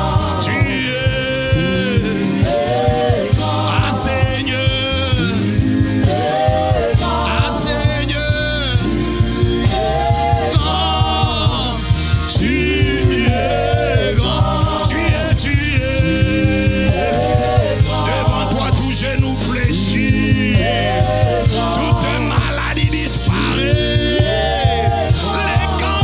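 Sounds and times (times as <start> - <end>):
band accompaniment with steady beat: 0.0 - 26.0
man and women singing: 0.0 - 26.0.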